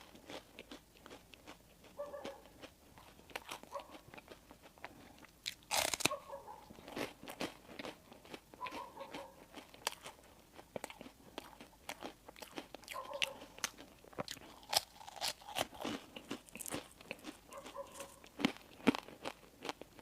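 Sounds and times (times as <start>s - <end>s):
chewing crispy bread: 0.0s - 20.0s.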